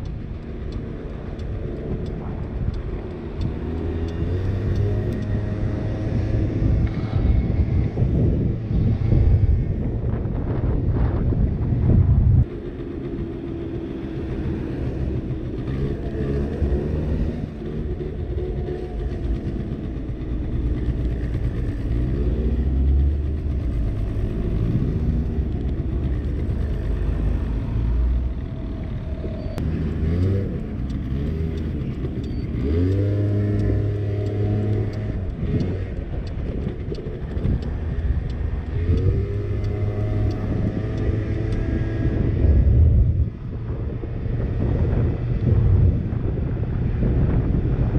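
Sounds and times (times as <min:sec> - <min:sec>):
scooter engine accelerating: 0:00.0 - 0:47.9.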